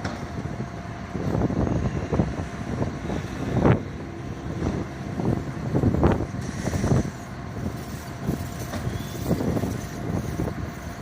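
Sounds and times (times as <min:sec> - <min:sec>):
vehicle engine running: 0:01.0 - 0:11.0.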